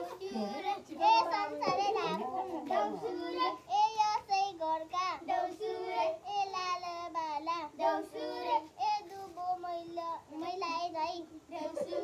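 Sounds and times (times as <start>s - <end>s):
child singing in a high voice: 0.0s - 12.0s.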